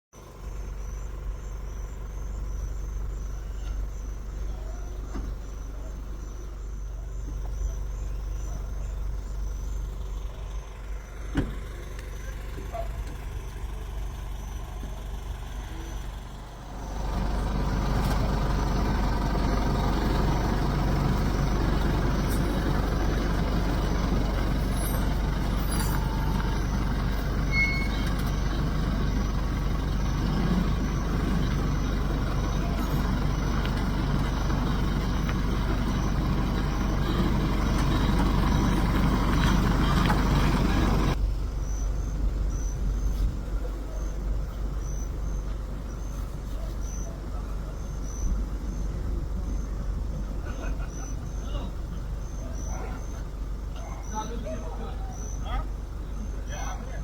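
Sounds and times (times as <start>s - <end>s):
steady low rumble: 0.4s - 57.0s.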